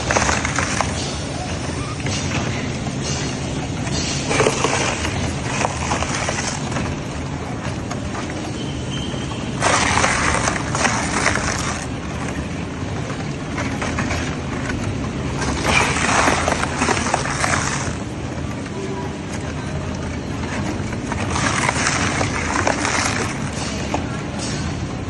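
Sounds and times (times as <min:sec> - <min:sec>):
crunching and tearing of tyre: 0:00.0 - 0:02.4, 0:04.2 - 0:12.6, 0:13.2 - 0:18.2, 0:20.2 - 0:24.6.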